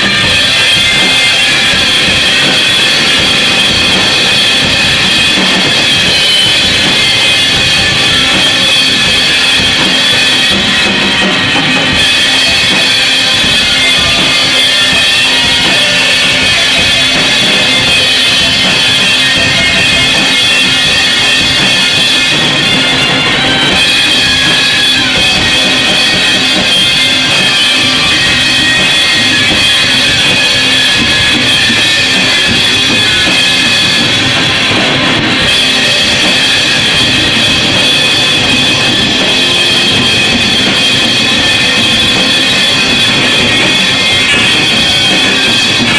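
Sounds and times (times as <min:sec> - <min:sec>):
distorted noise music: 0:00.0 - 0:45.9
drums: 0:00.0 - 0:45.9
high-pitched tones: 0:00.0 - 0:45.9.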